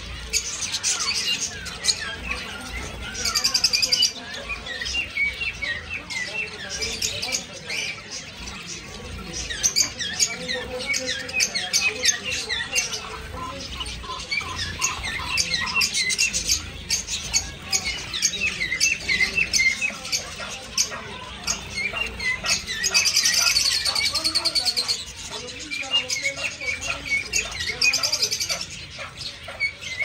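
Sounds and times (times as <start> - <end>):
finches chirping: 0.0 - 30.0.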